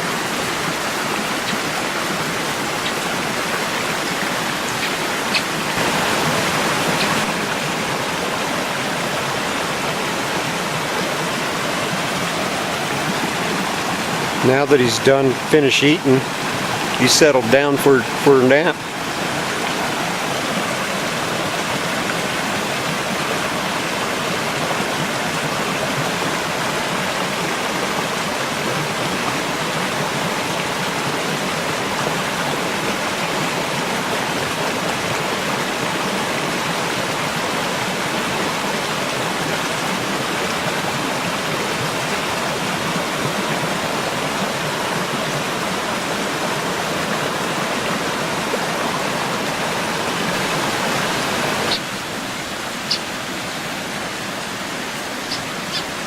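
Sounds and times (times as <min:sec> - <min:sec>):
creek water flowing: 0:00.0 - 0:56.0.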